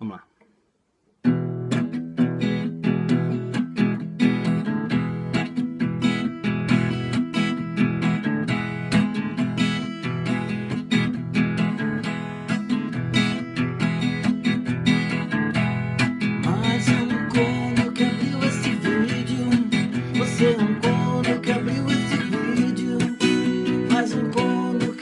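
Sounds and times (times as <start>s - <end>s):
strummed acoustic guitar: 1.2s - 25.0s.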